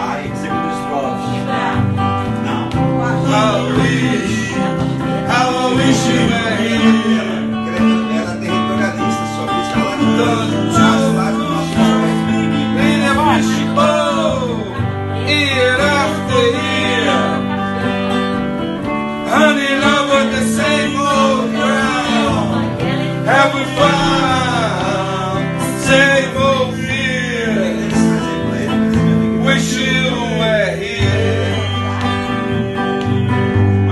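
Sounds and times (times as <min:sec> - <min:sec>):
person singing: 0:00.0 - 0:33.9
sliding guitar: 0:00.0 - 0:33.9.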